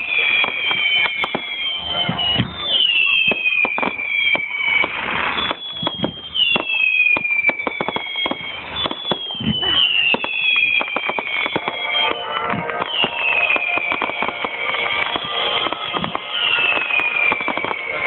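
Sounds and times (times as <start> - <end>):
descending firework whistles: 0.0 - 18.0
fireworks bangs and crackles: 0.0 - 18.0.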